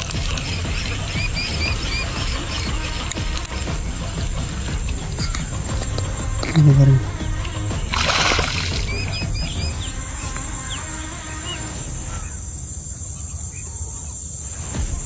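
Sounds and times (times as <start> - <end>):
high insect drone: 0.0 - 13.2
small birds chirping: 0.0 - 15.0.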